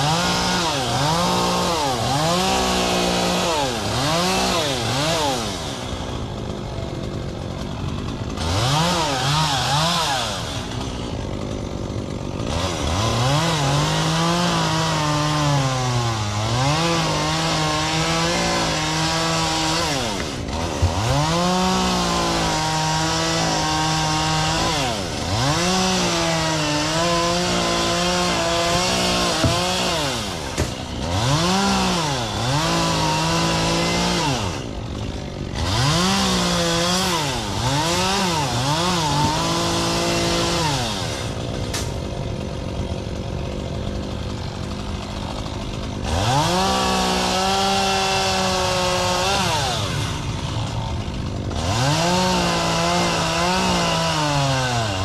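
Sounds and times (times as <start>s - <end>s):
chainsaw cutting fronds: 0.0s - 55.0s.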